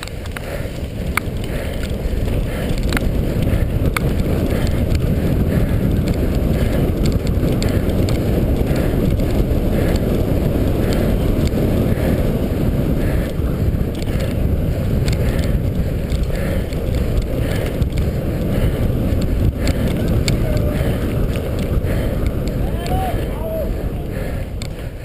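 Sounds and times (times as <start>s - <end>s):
bike clicks and rattles: 0.0s - 25.0s
tyres rolling over grass and dirt: 0.0s - 25.0s
wind rushing over microphone: 0.0s - 25.0s.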